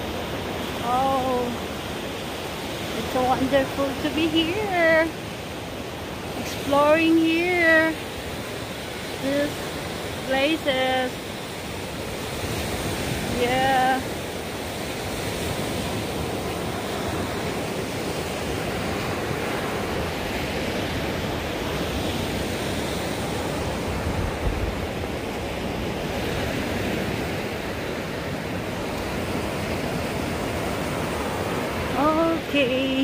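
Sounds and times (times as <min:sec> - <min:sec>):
surf breaking on beach: 0:00.0 - 0:33.0
wind on microphone: 0:02.4 - 0:33.0.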